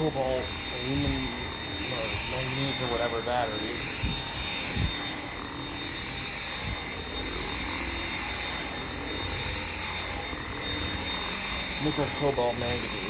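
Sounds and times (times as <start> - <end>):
cordless vacuum whining: 0.0 - 13.0.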